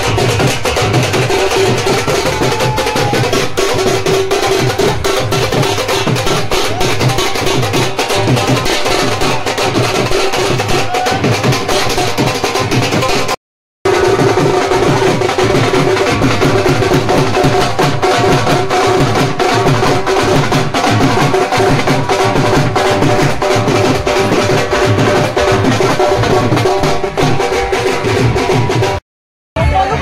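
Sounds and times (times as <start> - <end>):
drums beaten in fast rhythm: 0.0 - 29.0, 29.6 - 30.0.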